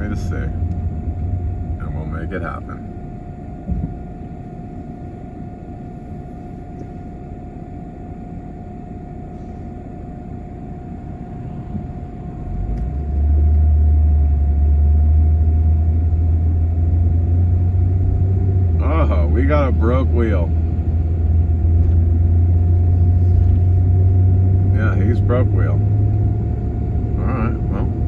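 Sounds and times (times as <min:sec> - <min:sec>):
loud low rumble: 0:00.0 - 0:06.2, 0:10.6 - 0:28.0
faint constant whine: 0:00.0 - 0:28.0
vehicle road noise hum: 0:00.0 - 0:28.0.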